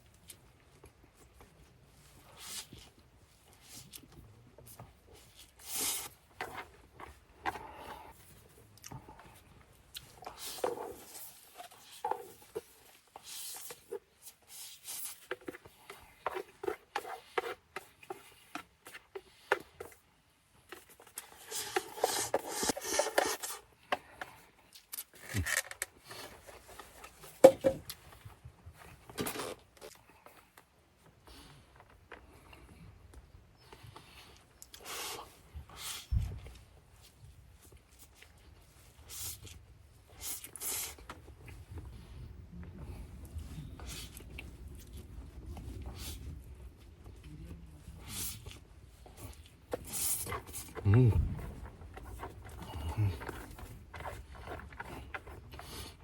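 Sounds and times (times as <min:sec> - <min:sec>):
handling noises rubbing and tapping: 0:00.2 - 0:35.0, 0:36.0 - 0:56.0.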